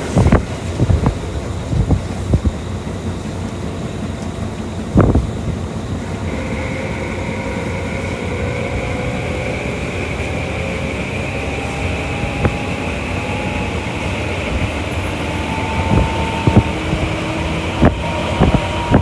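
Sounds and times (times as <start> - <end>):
train motor whine rising: 0.0 - 19.0
train wheels knocking on rail joints: 0.0 - 19.0.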